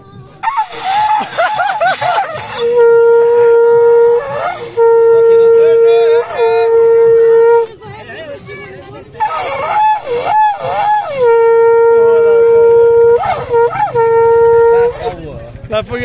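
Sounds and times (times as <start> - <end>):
conch shell blowing: 0.3 - 7.9, 9.1 - 15.2.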